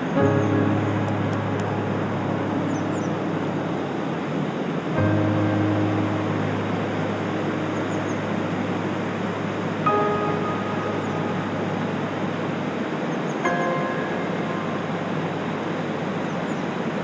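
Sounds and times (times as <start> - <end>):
soft music: 0.0 - 17.0
stream running over rocks: 0.0 - 17.0.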